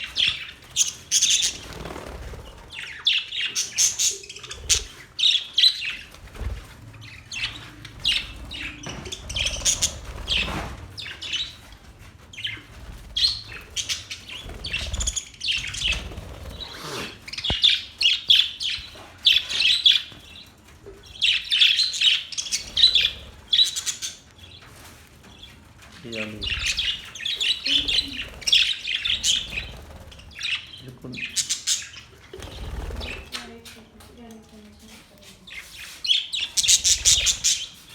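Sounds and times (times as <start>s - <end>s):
budgerigars chirping: 0.0s - 6.2s, 7.0s - 11.7s, 12.4s - 24.6s, 25.2s - 33.4s, 35.5s - 37.9s.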